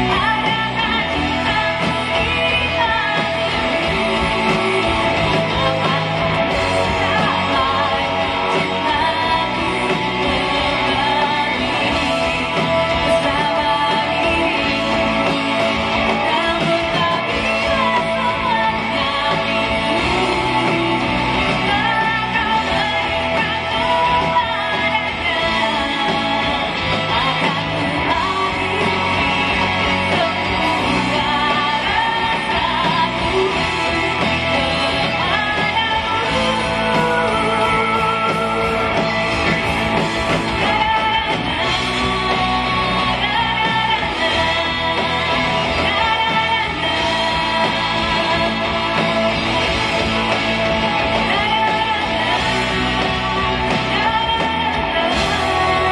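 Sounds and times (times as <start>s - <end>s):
live pop-rock band: 0.0s - 55.9s
woman singing: 0.0s - 55.9s.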